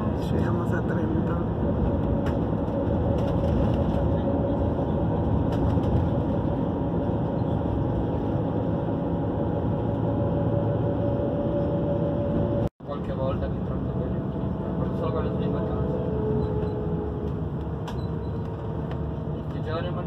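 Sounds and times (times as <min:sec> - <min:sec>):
vehicle running rumble: 0:00.0 - 0:20.0.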